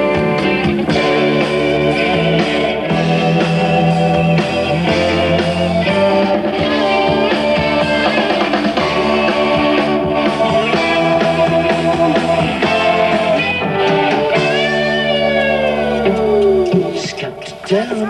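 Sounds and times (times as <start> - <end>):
held bass notes: 0.0 - 18.0
rock band playing: 0.0 - 18.0.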